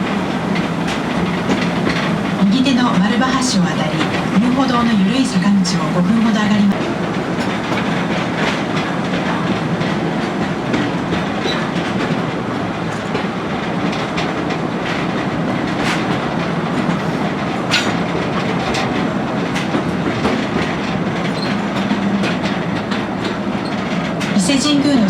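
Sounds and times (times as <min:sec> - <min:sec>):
train wheels rumbling on rail: 0:00.0 - 0:25.0
wheels clicking over rail joints: 0:00.0 - 0:25.0.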